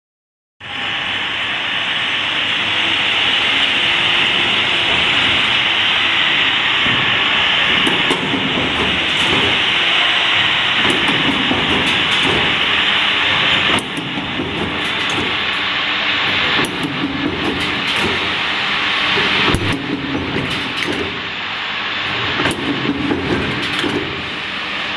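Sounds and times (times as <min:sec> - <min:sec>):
machine hissing: 0:00.8 - 0:24.9.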